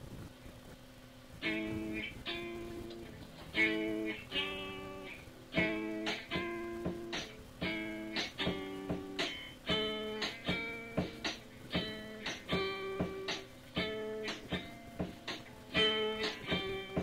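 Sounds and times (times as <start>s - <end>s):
guitar strumming chords: 1.4s - 17.0s.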